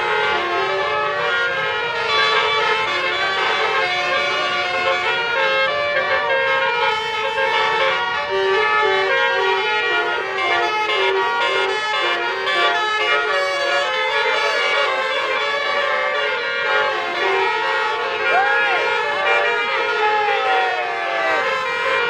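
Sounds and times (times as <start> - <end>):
multi-tone air horn melody: 0.0 - 22.0.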